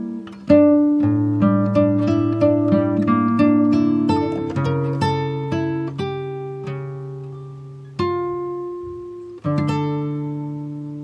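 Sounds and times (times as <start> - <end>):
plucked string chords: 0.0 - 11.0.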